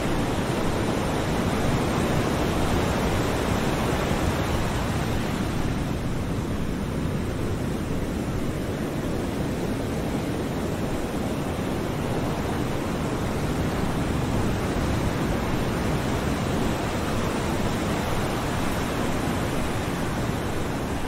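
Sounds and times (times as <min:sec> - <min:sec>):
ocean waves on shore: 0:00.0 - 0:21.0.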